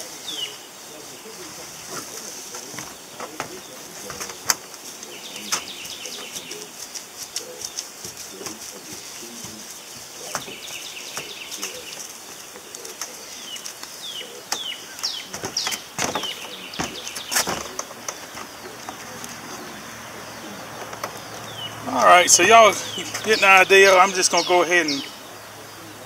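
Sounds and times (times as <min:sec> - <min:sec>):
birds chirping: 0:00.0 - 0:26.0
footsteps on tin roof: 0:01.6 - 0:24.6.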